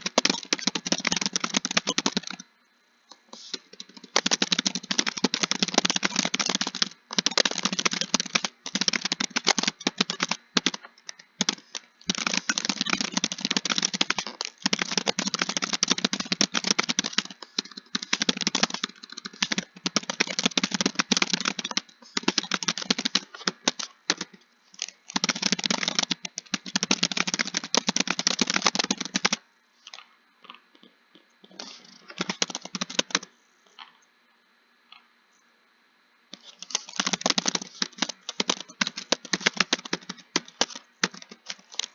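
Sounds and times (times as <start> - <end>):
fast typing on keyboard: 0.0 - 2.4, 3.4 - 29.4, 31.6 - 33.3, 36.4 - 41.9.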